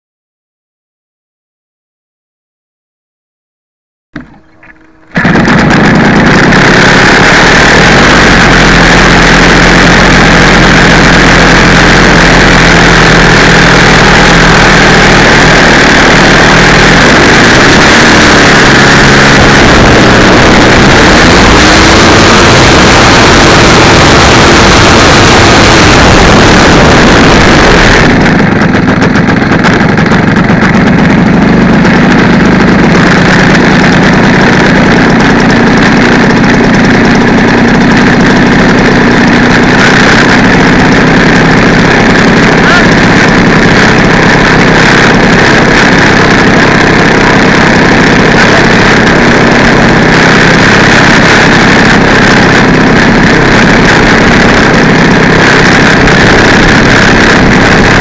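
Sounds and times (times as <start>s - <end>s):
loud two-stroke model plane engine: 4.2s - 58.0s.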